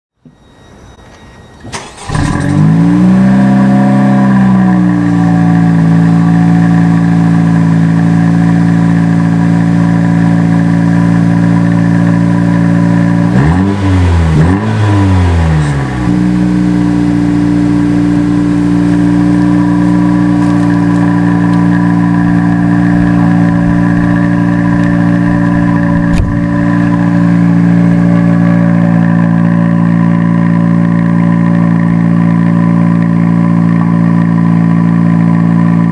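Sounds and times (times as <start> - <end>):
car engine idling: 1.6 - 35.9
car engine revving: 1.8 - 35.9.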